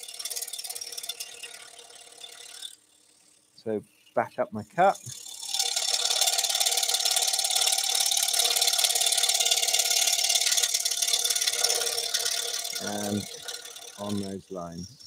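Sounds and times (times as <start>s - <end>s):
scroll saw cutting wood: 0.0s - 3.5s, 4.8s - 15.0s.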